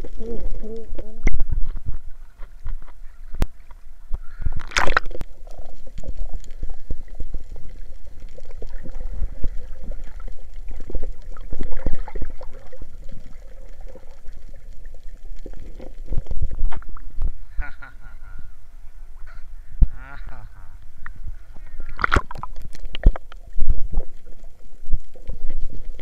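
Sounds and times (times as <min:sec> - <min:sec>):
muffled underwater sloshing: 0:00.0 - 0:26.0.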